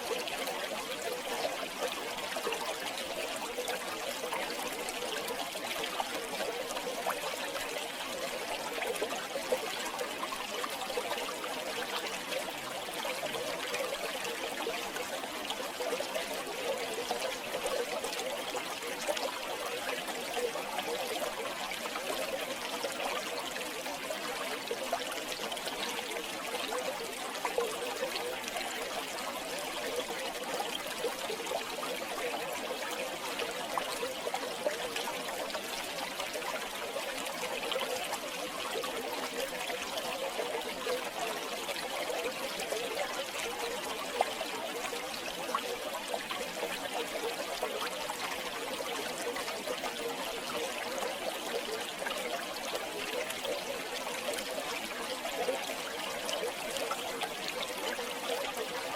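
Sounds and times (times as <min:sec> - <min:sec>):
river water flowing: 0:00.0 - 0:58.9
small water splashes: 0:00.0 - 0:58.9.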